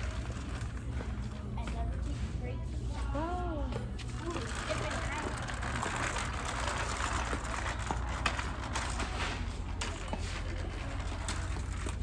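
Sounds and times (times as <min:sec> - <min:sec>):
faint indistinct voices: 0:00.0 - 0:12.0.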